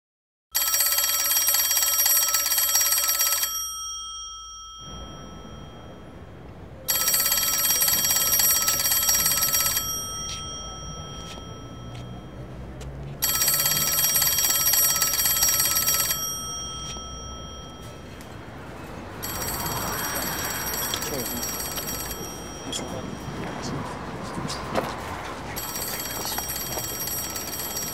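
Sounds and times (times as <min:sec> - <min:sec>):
payphone ringing: 0:00.5 - 0:24.6, 0:25.6 - 0:27.9
street ambience: 0:00.6 - 0:27.9.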